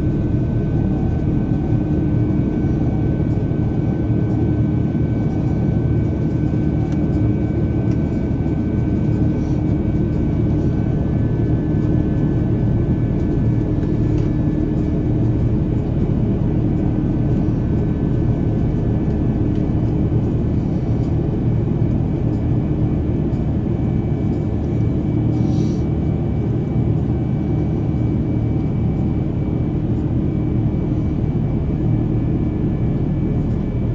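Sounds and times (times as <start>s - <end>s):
jet engine rumble and airflow: 0.0s - 33.9s.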